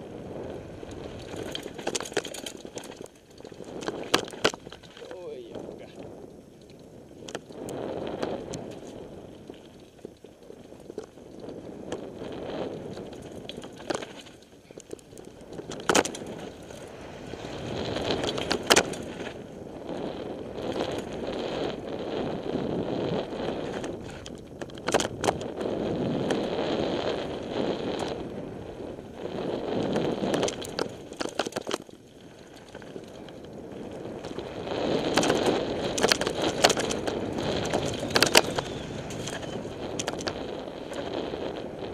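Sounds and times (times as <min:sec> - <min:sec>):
bike tyres and air rushing: 0:00.0 - 0:41.9
bike clacking and rattling: 0:00.9 - 0:05.7, 0:06.6 - 0:19.4, 0:23.4 - 0:28.3, 0:29.4 - 0:41.2.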